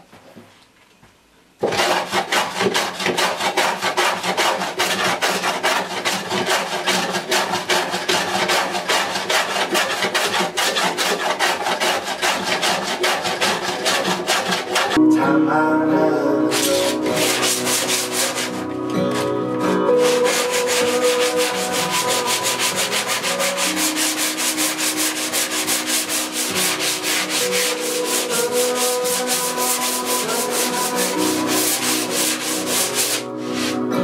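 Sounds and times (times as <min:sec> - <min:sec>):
sandpaper scratching on wood: 0:01.6 - 0:15.0, 0:16.5 - 0:19.2, 0:19.9 - 0:33.8.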